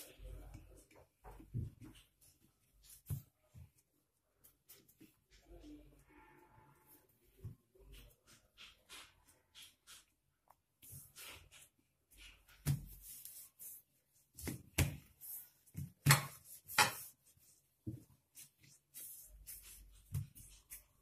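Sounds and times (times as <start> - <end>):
hands rolling dough: 0.0 - 21.0.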